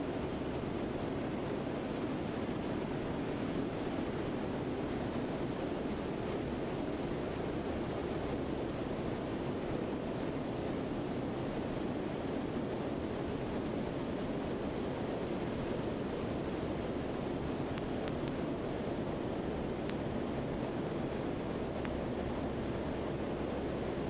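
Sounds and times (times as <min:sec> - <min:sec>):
airflow rushing in aircraft: 0:00.0 - 0:24.0.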